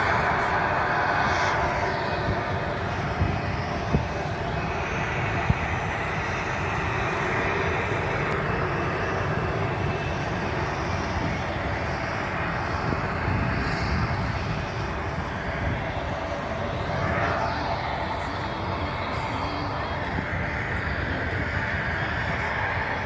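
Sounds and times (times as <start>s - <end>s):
jet airliner engines rushing: 0.0s - 23.0s.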